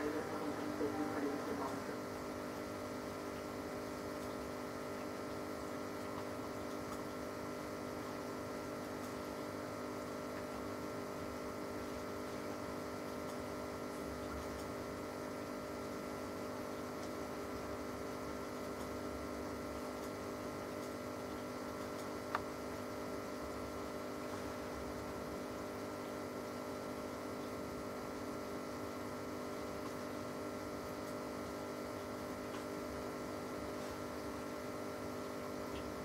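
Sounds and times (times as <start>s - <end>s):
aquarium air pump humming: 0.0s - 36.0s.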